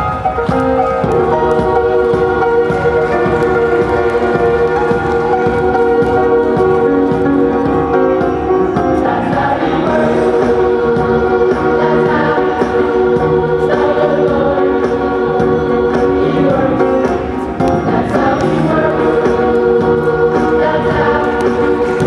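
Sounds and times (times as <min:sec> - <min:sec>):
choir-like singing over a beat: 0:00.0 - 0:22.0.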